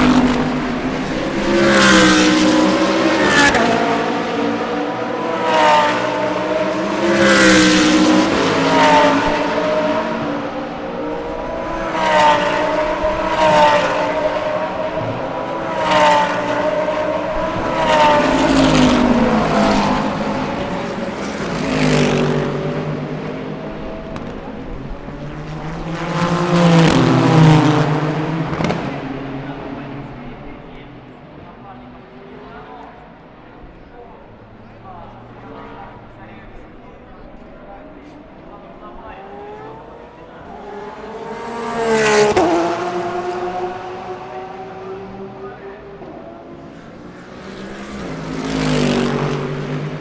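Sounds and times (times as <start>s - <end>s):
race cars passing at high speed: 0.0s - 50.0s.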